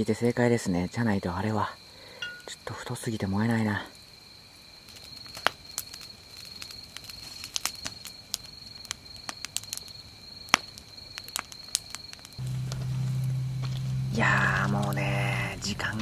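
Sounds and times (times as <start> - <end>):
high insect trill: 0.0 - 16.0
campfire crackling and popping: 2.2 - 16.0.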